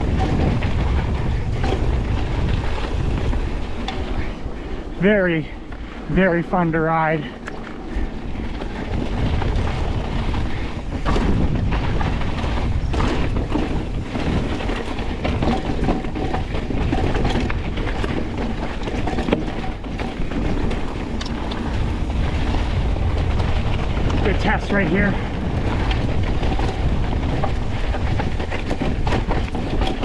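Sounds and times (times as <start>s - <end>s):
mountain bike rumbling over rocks: 0.0s - 30.0s
wheels knocking on rocks: 0.0s - 30.0s
wind buffeting microphone: 0.0s - 30.0s.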